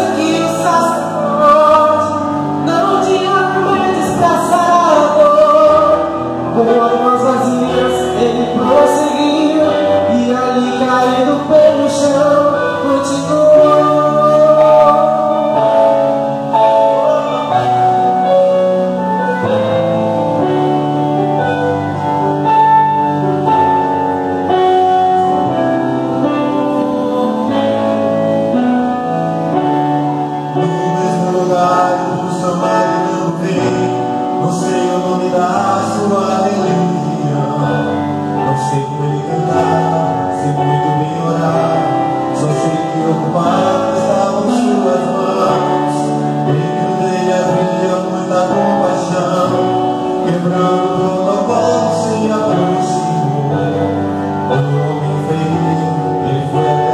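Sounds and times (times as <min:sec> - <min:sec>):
men singing gospel: 0:00.0 - 0:19.8, 0:26.1 - 0:29.4, 0:30.2 - 0:56.9
keyboard accompaniment: 0:00.0 - 0:56.9.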